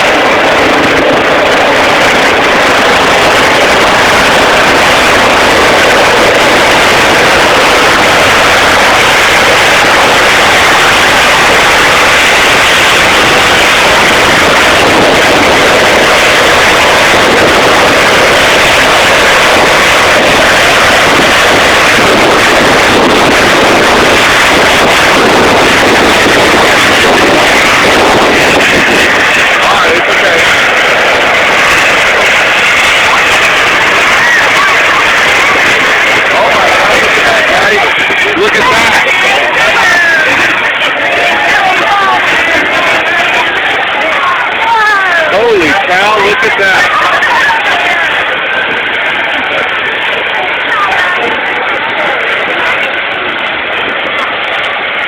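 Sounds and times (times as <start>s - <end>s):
helicopter rotor and engine noise: 0.0s - 55.0s.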